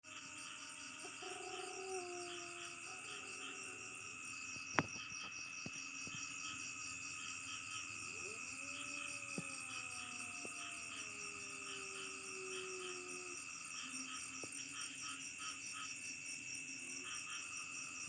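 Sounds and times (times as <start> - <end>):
crickets trilling: 0.0 - 18.0
pulsing insect chirp: 0.1 - 18.0.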